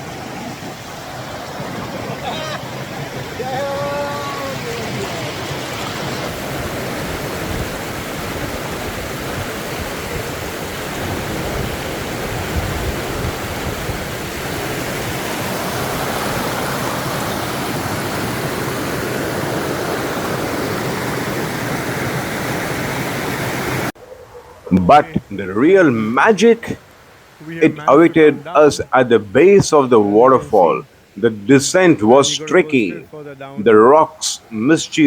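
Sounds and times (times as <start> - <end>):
waterfall rushing: 0.0 - 24.0, 24.7 - 35.0.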